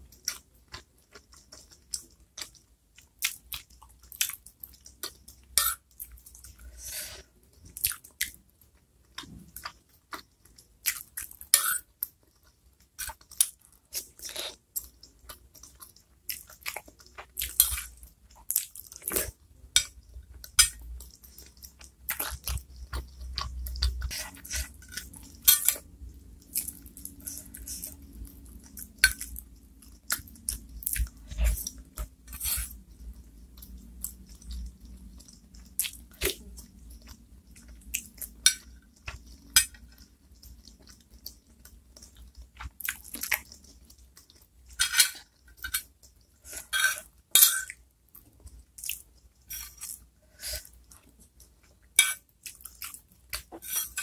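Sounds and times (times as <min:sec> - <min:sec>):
person chewing: 0:00.1 - 0:08.4, 0:09.1 - 0:54.0.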